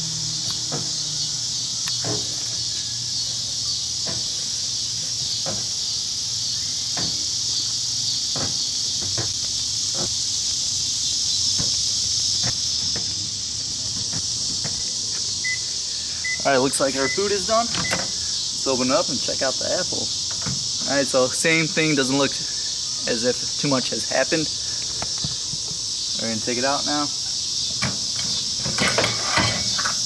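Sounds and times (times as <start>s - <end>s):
high hiss: 0.0s - 30.0s.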